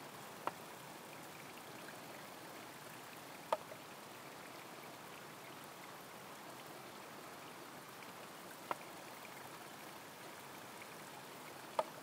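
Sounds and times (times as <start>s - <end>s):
trickling stream: 0.0s - 12.0s.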